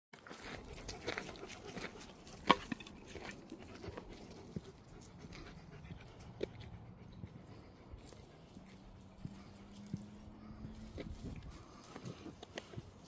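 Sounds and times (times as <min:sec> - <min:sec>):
light clicks and scuffs: 0:00.2 - 0:13.0
dog panting: 0:00.3 - 0:13.0.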